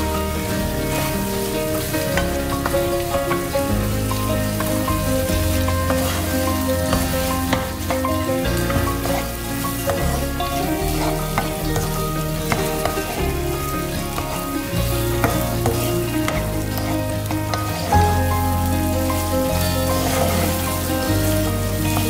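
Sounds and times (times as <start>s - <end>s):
background music: 0.0s - 22.0s
food sizzling in a frying pan: 0.0s - 22.0s
spatula scraping a pan: 0.4s - 18.2s, 19.6s - 21.2s.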